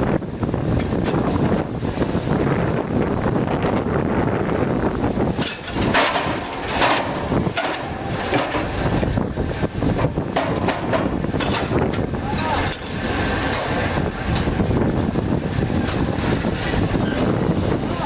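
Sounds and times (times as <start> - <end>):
diesel pile hammer working: 0.0 - 18.0.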